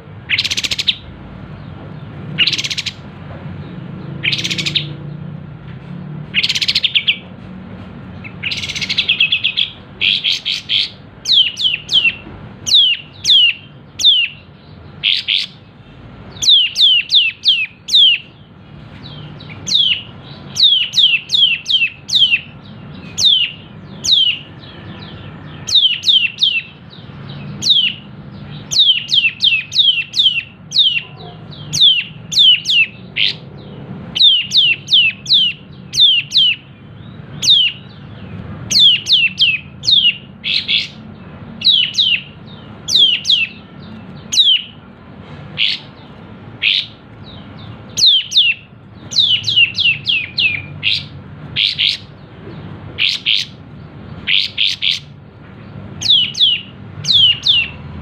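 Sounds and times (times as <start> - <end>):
songbird singing rapid notes: 0.0 - 7.4, 8.0 - 58.0.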